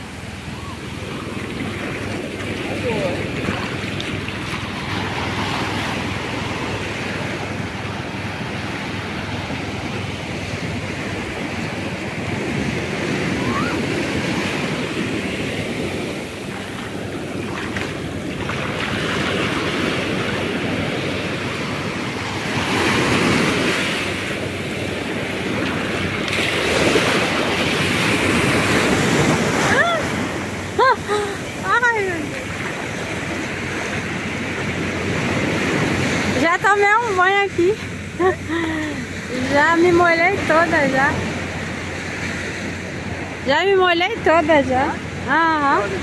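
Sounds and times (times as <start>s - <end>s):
ocean surf breaking: 0.0s - 46.0s.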